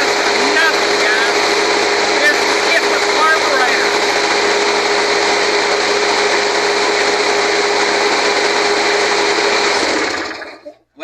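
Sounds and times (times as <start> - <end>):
lawn mower engine running: 0.0 - 10.5.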